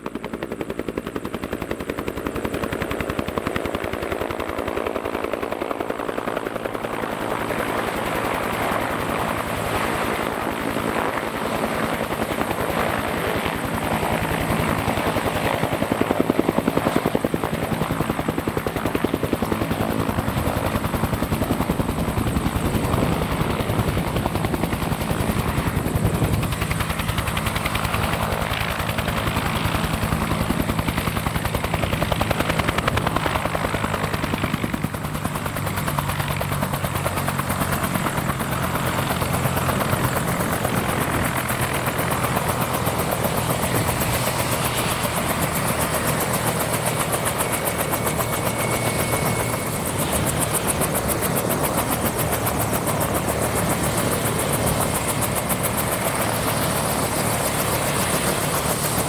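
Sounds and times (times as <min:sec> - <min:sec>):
helicopter rotor blade beat: 0:00.0 - 0:59.0.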